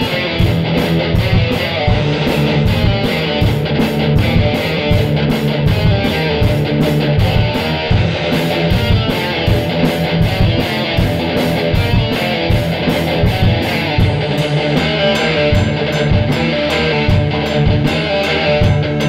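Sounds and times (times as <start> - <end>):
cymbals struck: 0.0 - 19.0
heavy metal song: 0.0 - 19.0.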